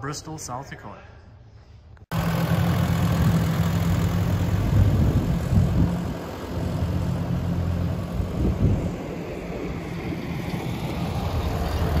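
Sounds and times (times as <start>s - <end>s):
tractor engine running: 2.1s - 12.0s.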